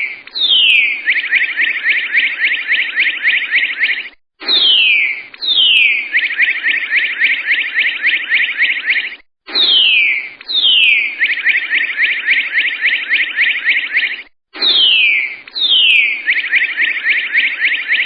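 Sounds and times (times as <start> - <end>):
bird song with whistles and trills: 0.0 - 18.0.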